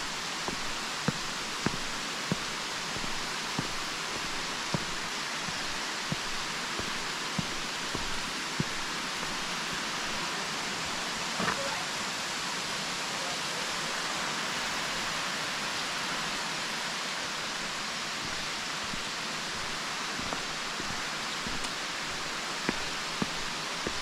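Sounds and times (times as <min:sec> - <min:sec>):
waterfall rushing over rock: 0:00.0 - 0:24.0.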